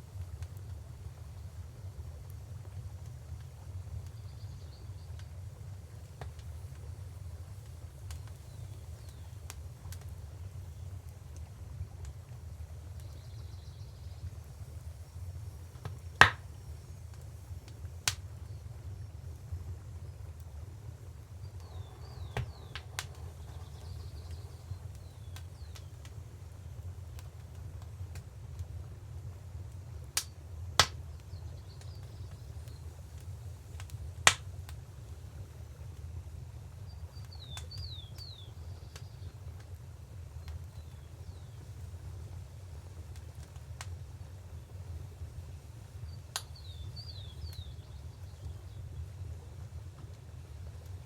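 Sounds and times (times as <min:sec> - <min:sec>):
fire popping: 0:00.0 - 0:51.0
wood fire crackling: 0:00.0 - 0:51.0.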